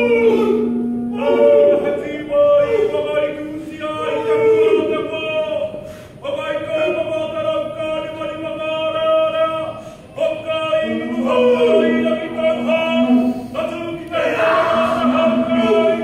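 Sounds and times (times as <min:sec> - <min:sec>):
lower held voice: 0:00.0 - 0:08.6, 0:09.5 - 0:16.0
ceremonial chanting: 0:00.0 - 0:16.0.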